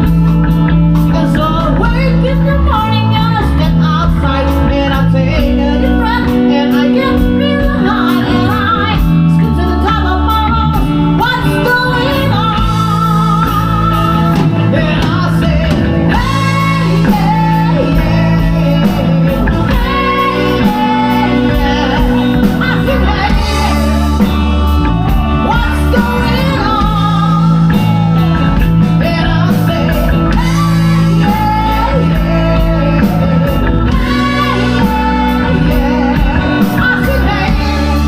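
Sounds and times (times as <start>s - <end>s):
bass guitar: 0.0s - 38.0s
drums: 0.0s - 38.0s
electric guitar: 0.0s - 38.0s
person singing: 1.0s - 38.0s.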